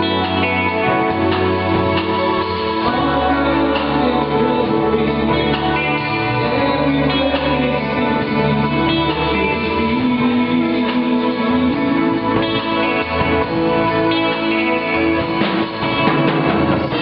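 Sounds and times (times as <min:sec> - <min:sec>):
electric guitar playing: 0:00.0 - 0:17.0
live band music: 0:00.0 - 0:17.0.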